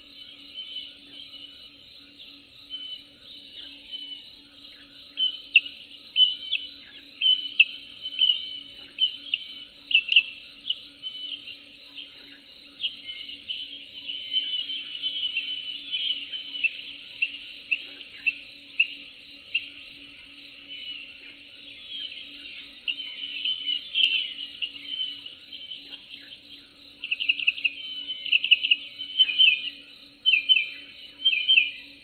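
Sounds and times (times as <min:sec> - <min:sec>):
birds chirping and trilling: 0:00.0 - 0:32.0.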